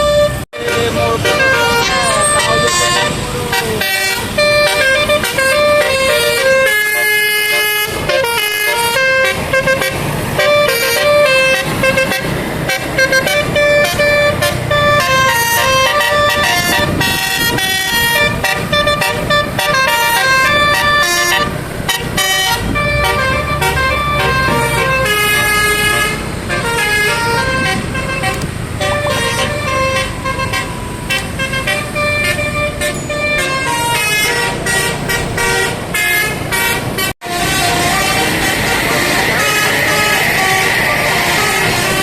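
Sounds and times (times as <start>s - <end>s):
musical air horn melody: 0.0s - 42.0s.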